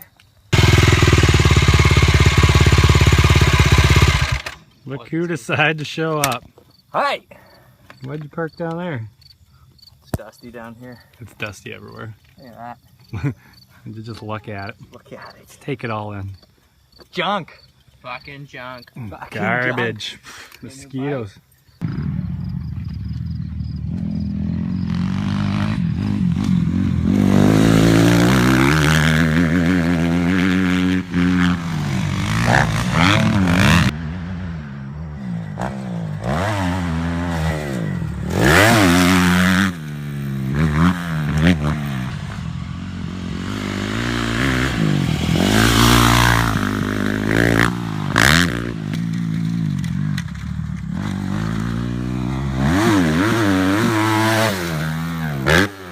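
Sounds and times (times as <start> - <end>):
dirt bike engines revving: 0.0 - 6.4, 10.3 - 55.9.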